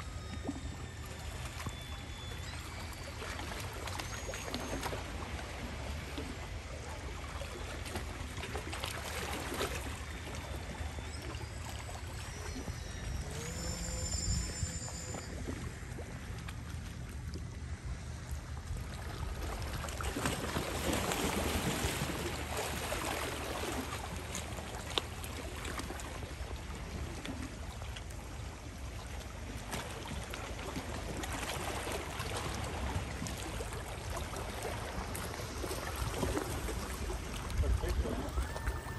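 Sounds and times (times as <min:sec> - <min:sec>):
small waves lapping at shore: 0:00.0 - 0:38.9.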